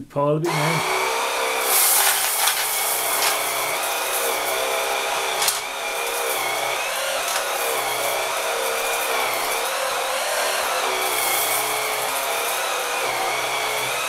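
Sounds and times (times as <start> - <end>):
sweeper brushes whining: 0.4 - 14.0.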